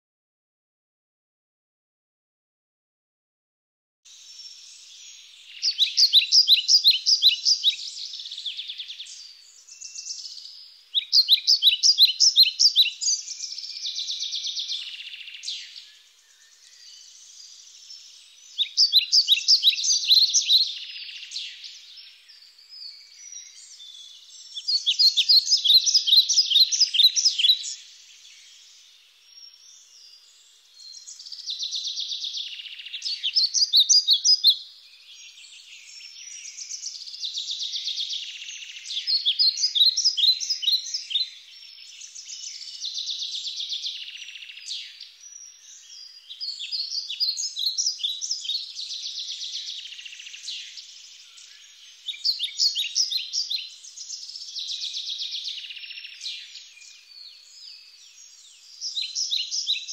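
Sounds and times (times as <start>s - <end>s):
soft bird twittering: 4.1s - 59.9s.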